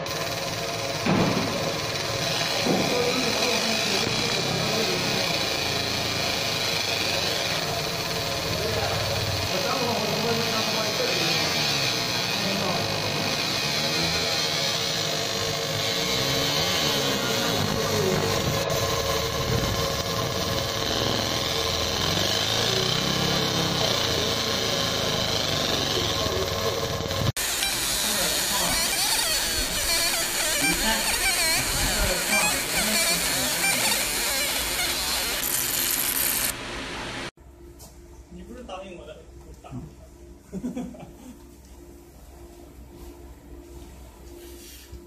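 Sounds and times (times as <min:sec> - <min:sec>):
laser marking machine humming: 0:00.0 - 0:37.3
cooling fans: 0:00.0 - 0:45.0.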